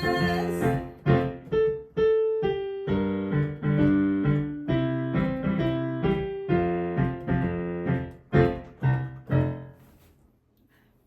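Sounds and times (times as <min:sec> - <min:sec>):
instrumental piano music: 0:00.0 - 0:10.1.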